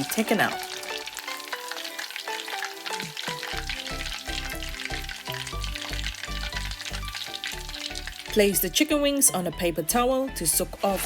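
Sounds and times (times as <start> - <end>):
chicken frying in hot oil: 0.0 - 9.6.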